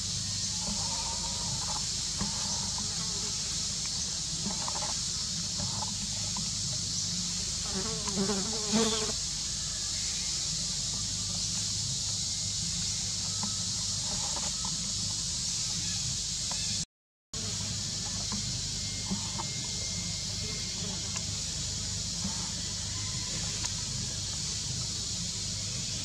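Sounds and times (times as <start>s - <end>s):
insects buzzing: 0.0s - 16.8s, 17.4s - 26.0s.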